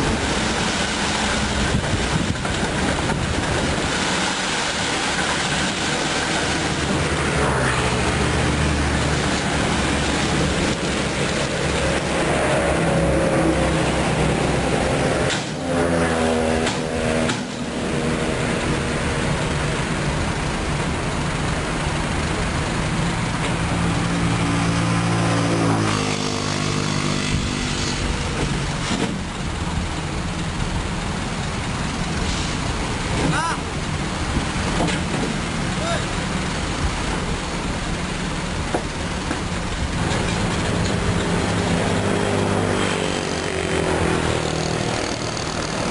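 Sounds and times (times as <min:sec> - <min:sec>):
diesel truck engine revving: 0:00.0 - 0:45.9.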